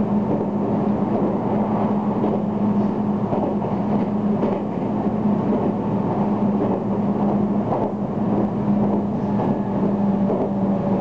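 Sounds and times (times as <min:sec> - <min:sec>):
constant low hum: 0:00.0 - 0:11.0
train wheels rumbling on rail: 0:00.0 - 0:11.0.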